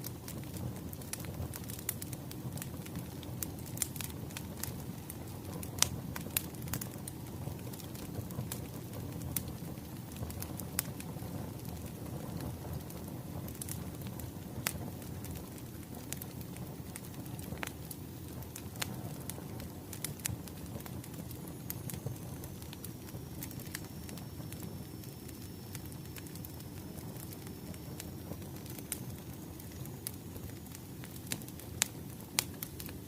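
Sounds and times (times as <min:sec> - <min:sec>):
fire pops and snaps: 0:00.0 - 0:33.0
wood fire crackling: 0:00.0 - 0:33.0.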